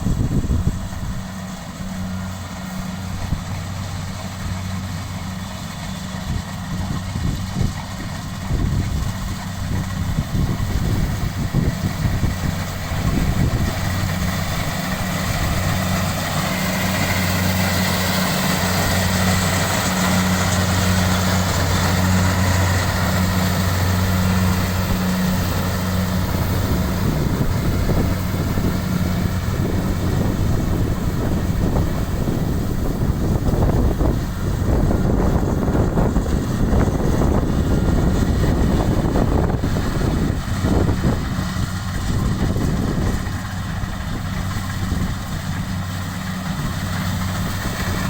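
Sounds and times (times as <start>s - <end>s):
engine humming: 0.0s - 48.0s.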